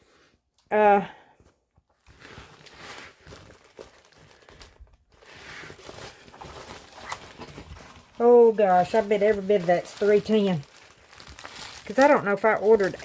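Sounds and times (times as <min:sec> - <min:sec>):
plastic packaging crinkling: 0:01.9 - 0:13.0.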